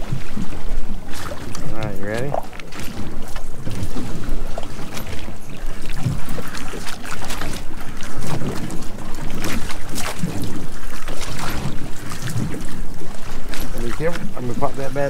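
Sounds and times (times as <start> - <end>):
short knocks and splashes: 0.0 - 15.0
water lapping against hull: 0.0 - 15.0.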